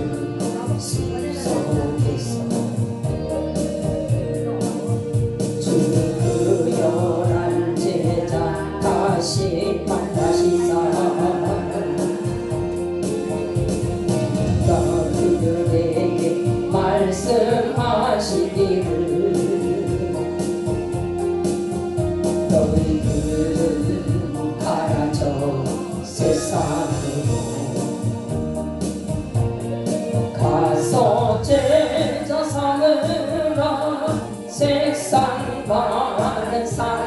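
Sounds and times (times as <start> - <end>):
gospel singing with instruments: 0.0 - 37.0.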